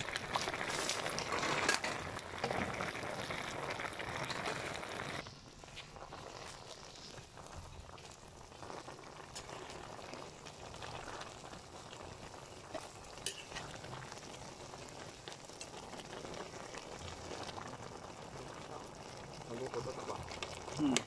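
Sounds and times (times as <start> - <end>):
stew simmering and sizzling: 0.0 - 21.0.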